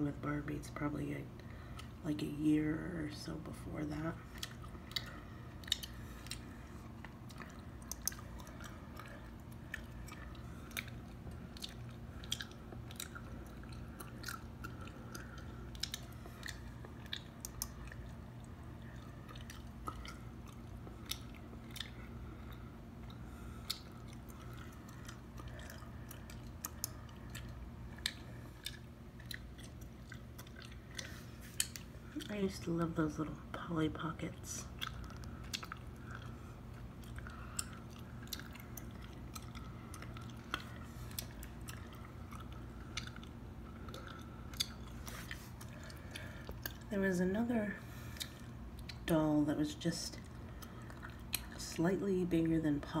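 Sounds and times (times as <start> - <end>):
steady low hum: 0.0 - 53.0
gum chewing clicks and smacks: 1.3 - 2.0, 2.8 - 47.0, 47.8 - 49.1, 50.1 - 51.8.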